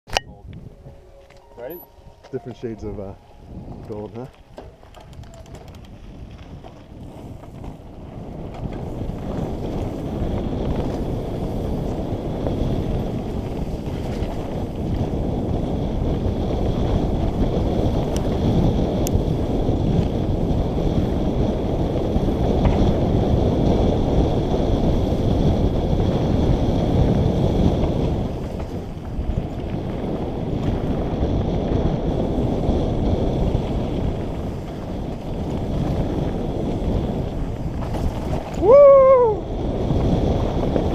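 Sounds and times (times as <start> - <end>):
wind rushing over microphone: 0.1 - 40.9
bike tyres rumbling on dirt: 3.4 - 40.9.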